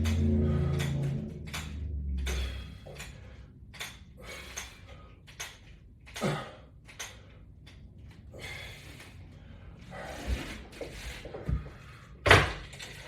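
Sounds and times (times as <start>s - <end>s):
man breathing heavily: 0.0s - 12.2s.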